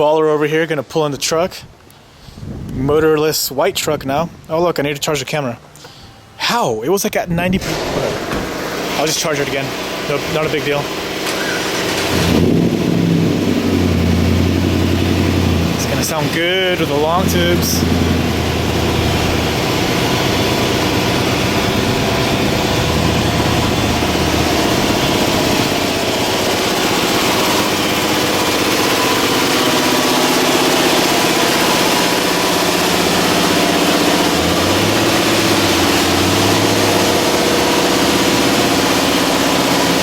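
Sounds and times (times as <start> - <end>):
vehicle engine idling: 7.9 - 40.0.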